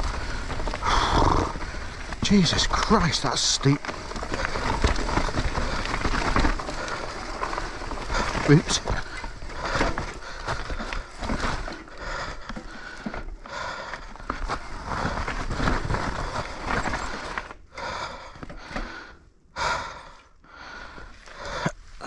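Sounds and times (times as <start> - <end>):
heavy breathing: 0.0 - 2.8, 3.8 - 22.0
bike chain and frame rattling: 0.0 - 18.8
bike tyres clattering over dirt: 0.0 - 19.2.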